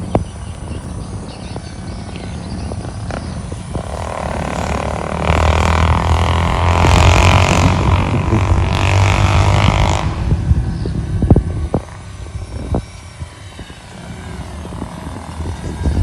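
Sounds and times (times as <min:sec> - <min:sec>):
small electric motors buzzing: 0:00.5 - 0:16.0.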